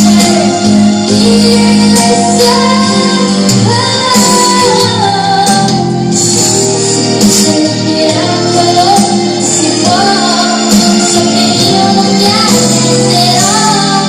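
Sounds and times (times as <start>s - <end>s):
backing track music: 0.0s - 14.0s
girl singing pop ballad: 0.0s - 14.0s.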